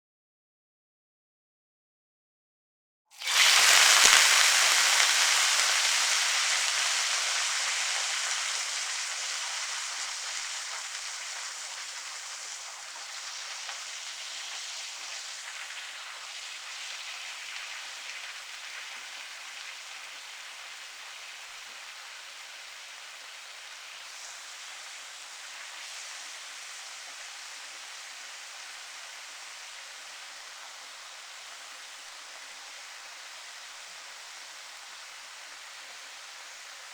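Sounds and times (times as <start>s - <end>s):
food sizzling in frying pan: 3.1s - 36.9s.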